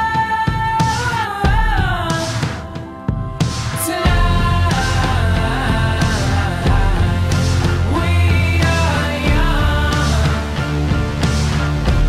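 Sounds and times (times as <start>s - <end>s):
pop-rock music with drum beat: 0.0s - 12.0s.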